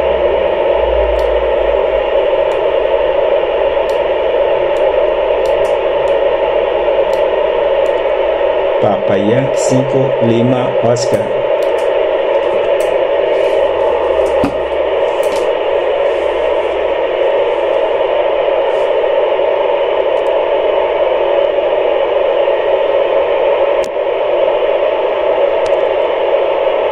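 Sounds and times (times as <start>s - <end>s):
radio static hiss: 0.0s - 26.9s.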